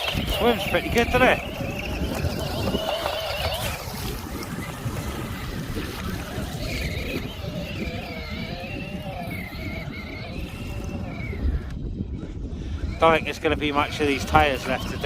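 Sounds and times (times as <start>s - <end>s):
electric motor whining: 0.0s - 15.0s
wind rumbling on microphone: 0.0s - 15.0s.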